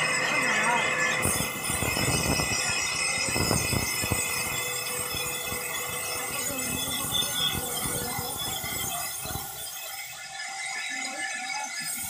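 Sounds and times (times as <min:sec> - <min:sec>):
band saw whine: 0:00.0 - 0:12.0.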